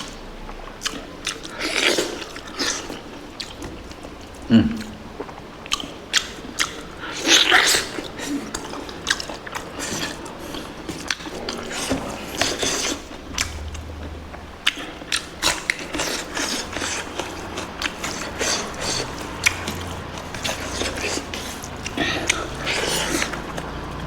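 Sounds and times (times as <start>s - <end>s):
person chewing and crunching food: 0.0s - 24.0s.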